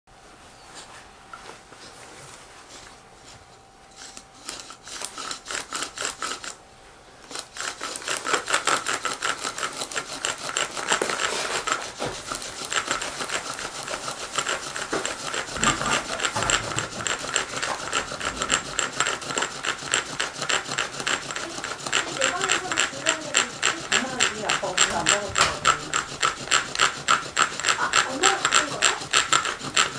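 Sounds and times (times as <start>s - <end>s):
bow drill friction scraping: 3.2s - 6.6s, 7.3s - 29.9s.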